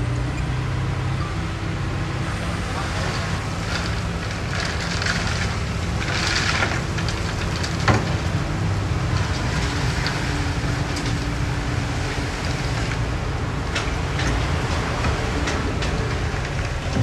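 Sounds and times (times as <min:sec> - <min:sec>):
diesel engine running: 0:00.0 - 0:17.0
crackling and crunching: 0:02.2 - 0:17.0.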